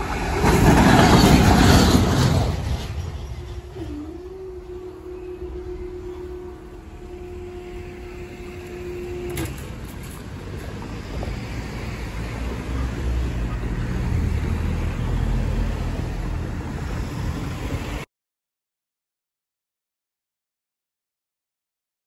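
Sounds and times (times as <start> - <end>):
road traffic driving past: 0.0 - 18.1.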